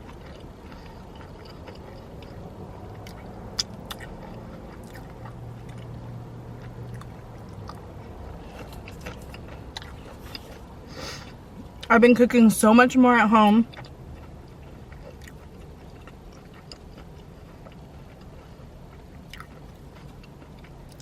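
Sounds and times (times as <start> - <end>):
person chewing: 0.0 - 11.9, 13.7 - 21.0.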